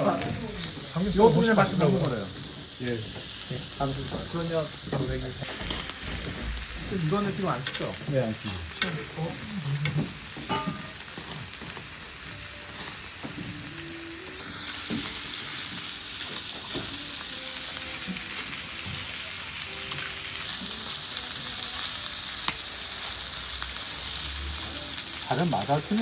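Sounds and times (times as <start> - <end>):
food sizzling: 0.0 - 26.0.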